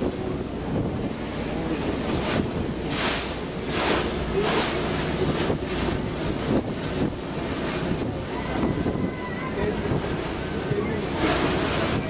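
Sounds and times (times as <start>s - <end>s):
low engine rumble: 0.0s - 12.0s
water splashing along boat hull: 0.0s - 12.0s
wind buffeting microphone: 0.0s - 12.0s.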